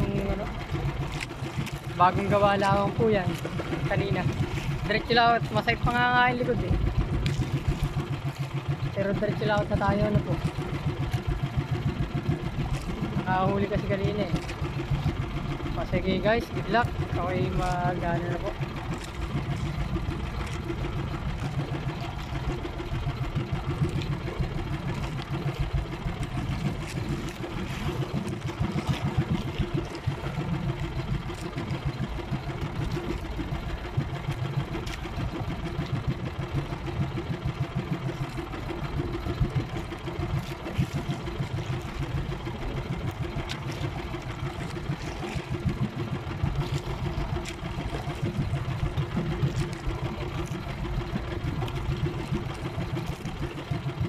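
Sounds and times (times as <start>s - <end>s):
boat engine running: 0.0s - 54.0s
water against hull: 0.0s - 54.0s.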